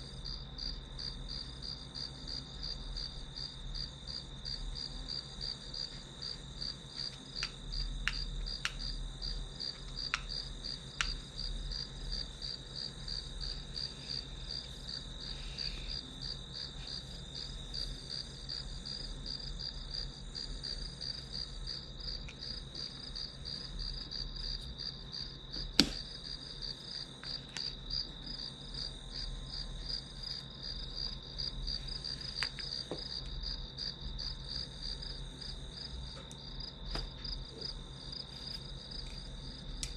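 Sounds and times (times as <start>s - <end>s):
crickets chirping: 0.0s - 39.9s
faint low hum: 0.0s - 39.9s.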